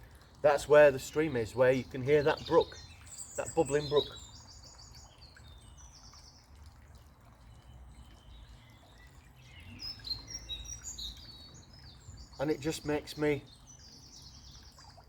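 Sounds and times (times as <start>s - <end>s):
bubbling brook: 0.0s - 15.0s
small birds chirping: 0.0s - 15.0s.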